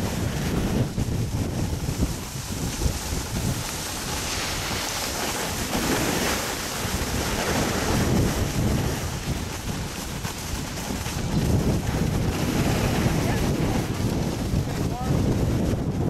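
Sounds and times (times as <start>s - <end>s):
snowboard sliding over snow: 0.0s - 16.0s
wind buffeting microphone: 0.0s - 16.0s.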